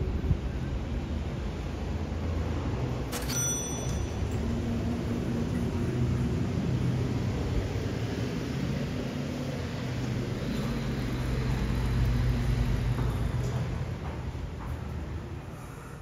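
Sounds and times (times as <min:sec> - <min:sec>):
vehicle engine hum: 0:00.0 - 0:15.9
road noise: 0:00.0 - 0:16.0.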